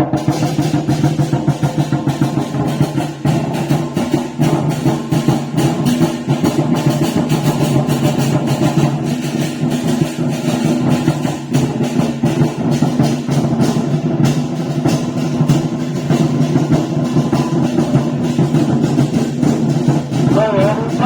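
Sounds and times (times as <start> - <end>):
rapid drum and percussion strokes: 0.0 - 21.0.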